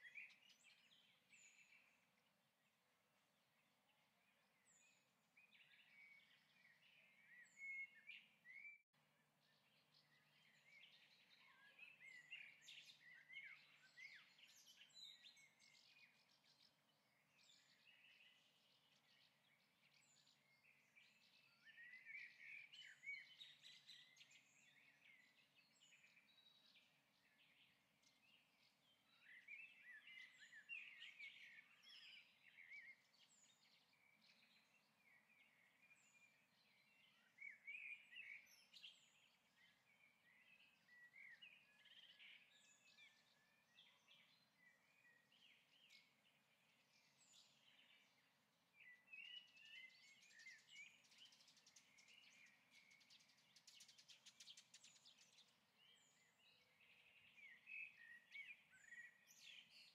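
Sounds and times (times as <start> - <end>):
faint bird chirping: 0.0 - 59.9.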